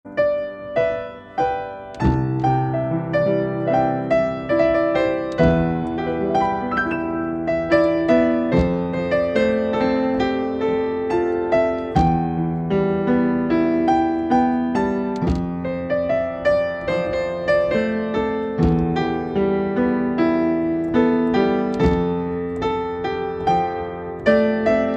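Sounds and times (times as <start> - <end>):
slow gentle piano piece: 0.0 - 24.9.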